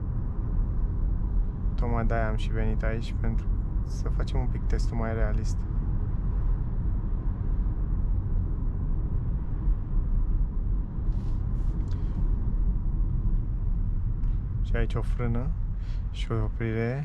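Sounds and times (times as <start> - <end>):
road and tyre rumble in car: 0.0 - 17.0.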